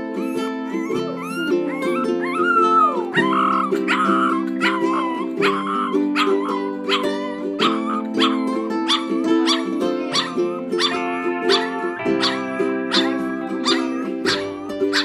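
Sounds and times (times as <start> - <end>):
background music: 0.0 - 15.0
puppy yelping: 0.0 - 15.0.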